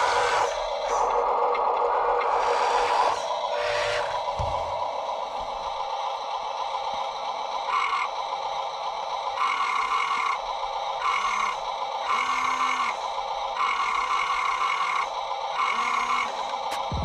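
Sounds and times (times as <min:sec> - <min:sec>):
electric motors whining: 0:00.0 - 0:17.0
steady background hum: 0:00.0 - 0:17.0.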